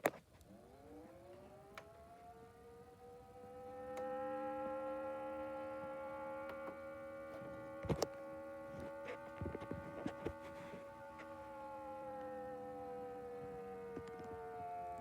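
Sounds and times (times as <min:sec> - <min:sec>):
alarm siren: 0:00.4 - 0:15.0.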